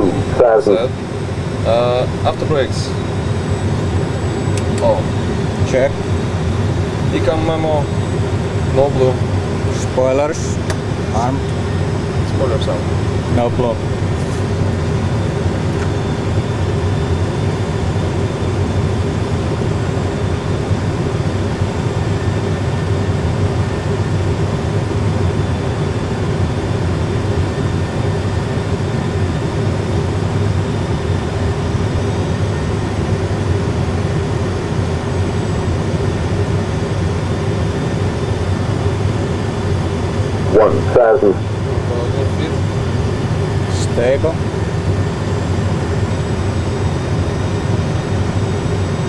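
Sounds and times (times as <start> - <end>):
simulated engine and airflow noise: 0.0 - 49.0.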